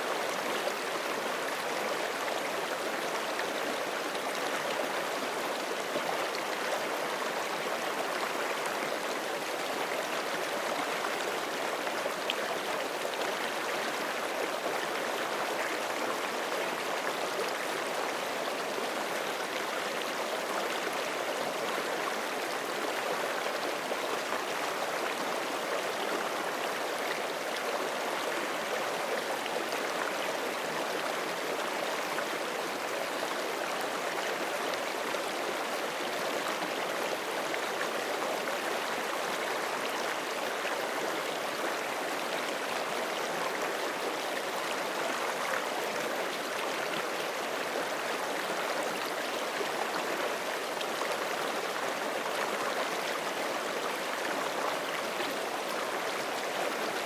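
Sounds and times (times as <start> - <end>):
stream babbling over rocks: 0.0 - 57.0.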